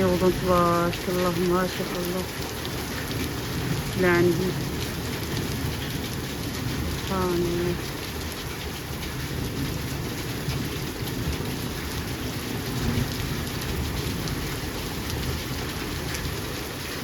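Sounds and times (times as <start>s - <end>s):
heavy rain patter: 0.0s - 17.0s.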